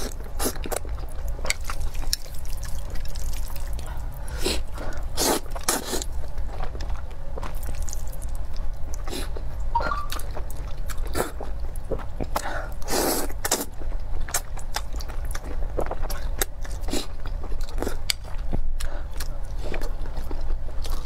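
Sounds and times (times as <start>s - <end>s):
chewing and mouth clicks: 0.0s - 4.1s, 4.9s - 21.0s.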